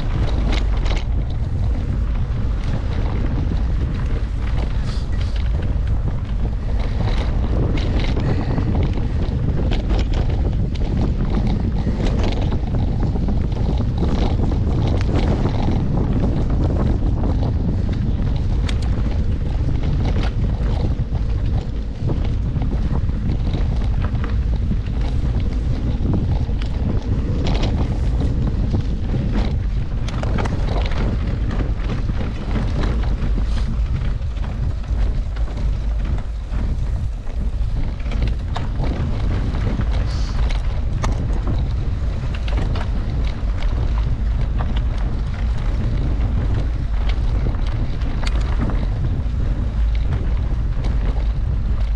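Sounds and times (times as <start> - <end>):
bike knocks and rattles: 0.0 - 51.9
wind buffeting microphone: 0.0 - 51.9.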